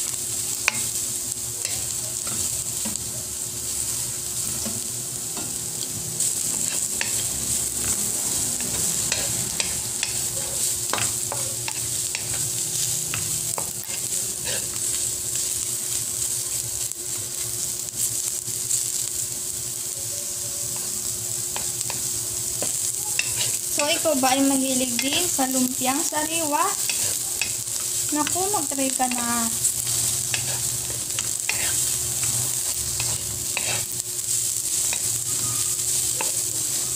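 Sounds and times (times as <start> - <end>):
vegetables sizzling in oil: 0.0 - 36.9.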